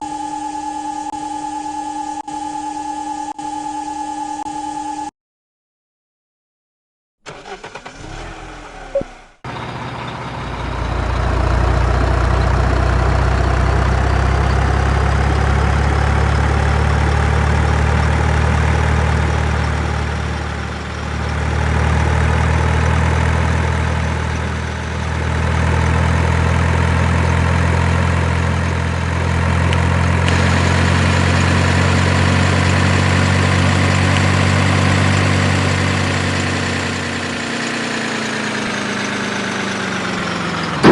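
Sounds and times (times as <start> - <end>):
heavy vehicle engine running: 7.3 - 40.9.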